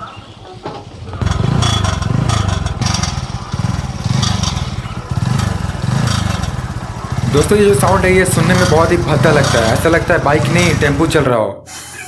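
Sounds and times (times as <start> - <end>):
motorcycle engine running: 0.0 - 11.3
exhaust silencer rattling: 0.8 - 11.2.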